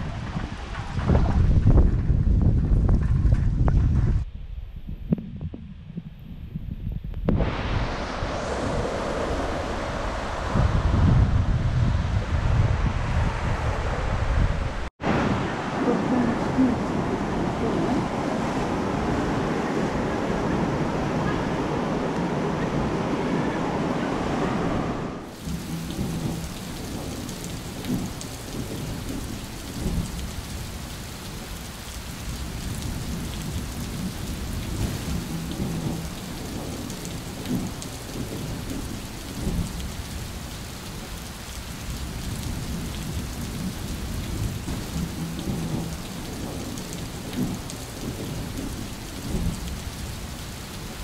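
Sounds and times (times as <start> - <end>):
thunder rolling: 0.0 - 4.3, 7.2 - 51.0
rain: 0.0 - 51.0
wind buffeting microphone: 0.0 - 51.0.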